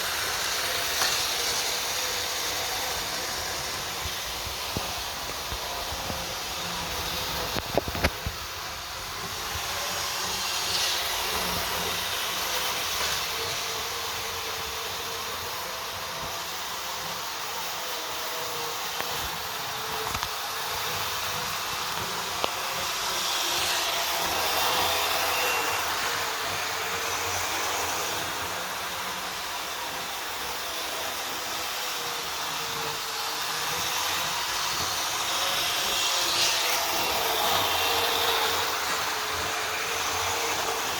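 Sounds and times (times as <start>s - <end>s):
model train motor whirring: 0.0s - 40.9s.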